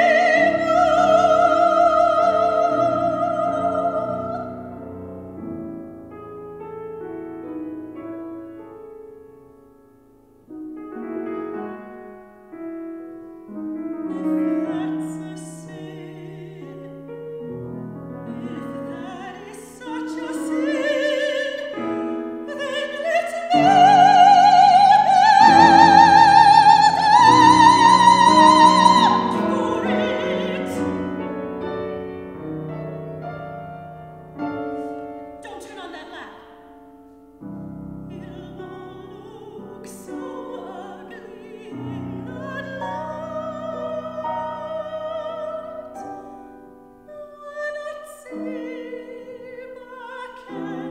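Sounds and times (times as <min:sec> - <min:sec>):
soprano singing: 0:00.0 - 0:09.5, 0:10.4 - 0:50.9
grand piano accompaniment: 0:00.0 - 0:50.9.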